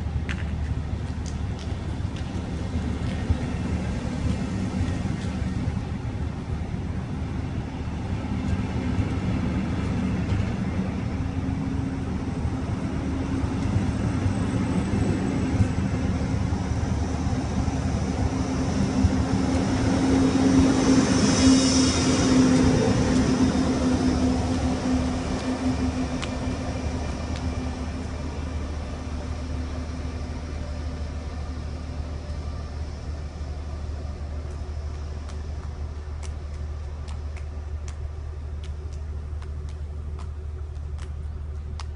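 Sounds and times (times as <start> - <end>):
electric locomotive hum and hiss: 0.0 - 41.9
train wheels on rails: 0.0 - 41.9.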